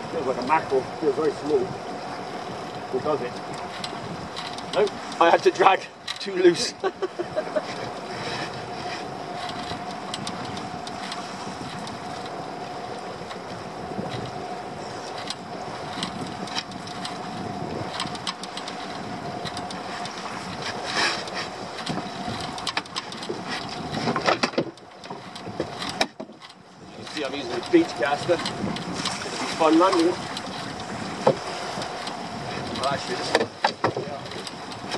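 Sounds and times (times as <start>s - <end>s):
outboard motor running: 0.0s - 34.9s
sea noise: 0.0s - 34.9s
wind: 0.0s - 34.9s.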